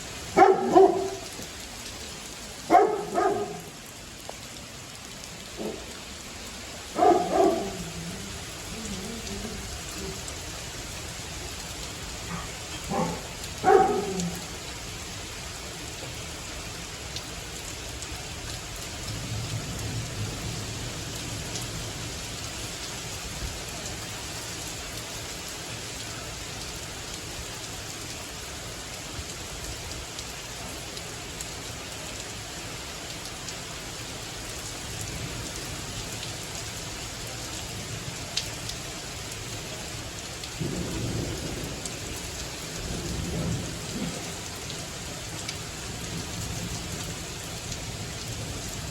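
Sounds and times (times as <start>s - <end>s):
heavy rain hissing: 0.0s - 48.9s
raindrops ticking close by: 0.0s - 48.9s.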